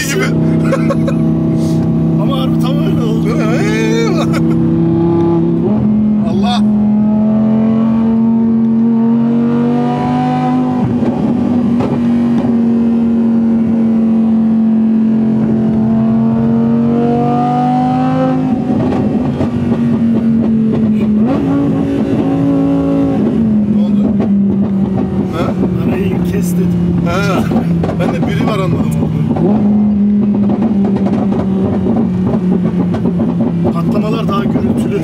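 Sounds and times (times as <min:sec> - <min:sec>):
car engine drone at speed: 0:00.0 - 0:35.0.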